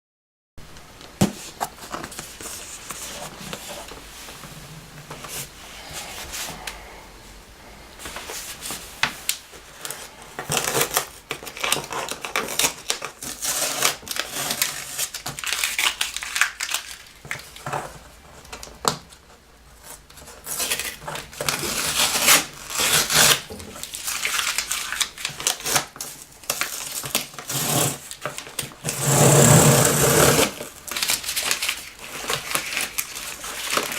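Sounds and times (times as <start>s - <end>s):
packaging rustling and crinkling: 1.0s - 6.9s, 8.0s - 33.9s.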